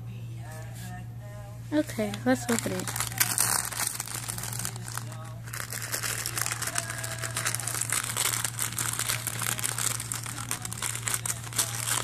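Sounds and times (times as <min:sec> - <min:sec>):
wrapping paper crinkling: 0:02.2 - 0:12.0.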